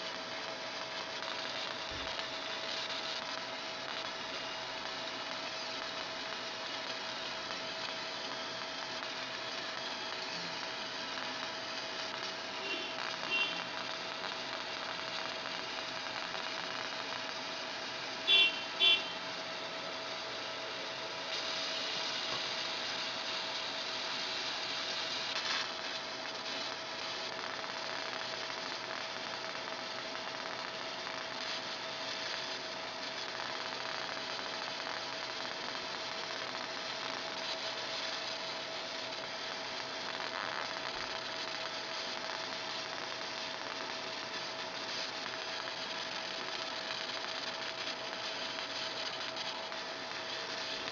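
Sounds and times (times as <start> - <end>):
laser machine humming: 0.0 - 50.9.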